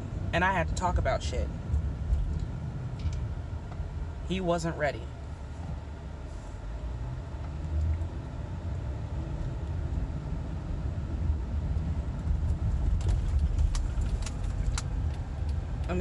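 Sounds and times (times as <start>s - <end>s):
car cabin rumble: 0.0s - 16.0s.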